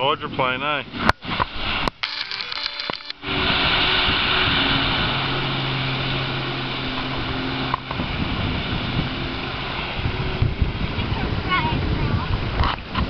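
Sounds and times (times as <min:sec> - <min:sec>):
jet ski engine running: 0:01.3 - 0:13.0.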